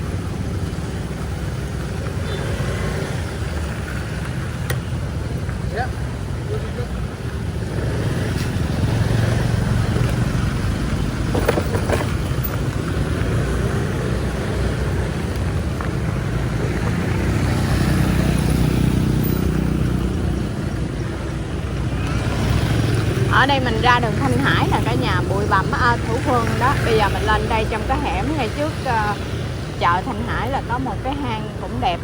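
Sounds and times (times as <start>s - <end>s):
road noise: 0.0s - 32.0s
vehicle engine running: 0.0s - 32.0s.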